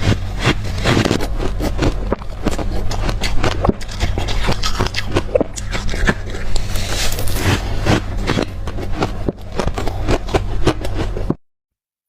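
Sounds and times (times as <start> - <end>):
crushed ice being chewed: 0.0 - 11.4.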